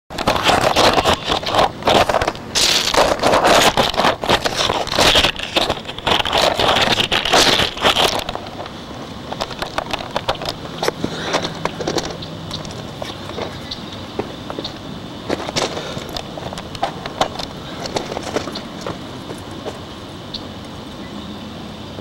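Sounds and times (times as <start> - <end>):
camera handling scraping: 0.2 - 13.7, 14.3 - 19.8.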